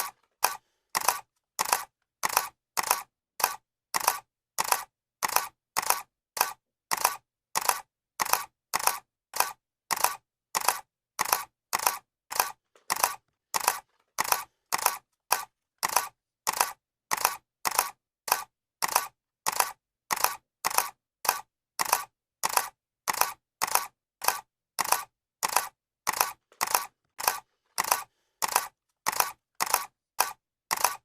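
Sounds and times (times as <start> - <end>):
camera shutter clicking: 0.0 - 31.0.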